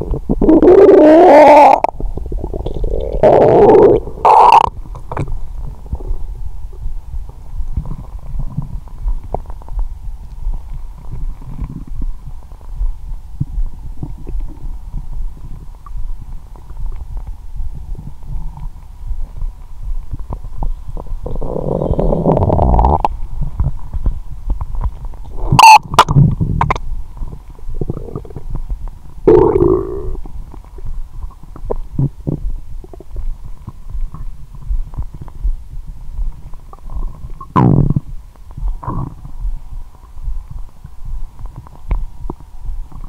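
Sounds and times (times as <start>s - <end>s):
stomach gurgling: 0.0s - 43.0s.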